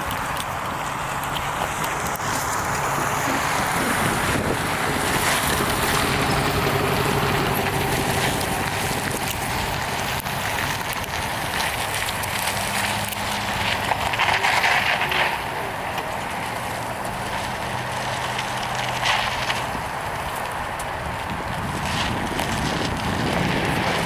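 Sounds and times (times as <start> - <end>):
diesel locomotive hum: 0.0 - 24.0
train wheels rumbling and clattering: 0.0 - 24.0
wind on microphone: 1.6 - 17.6, 19.6 - 24.0.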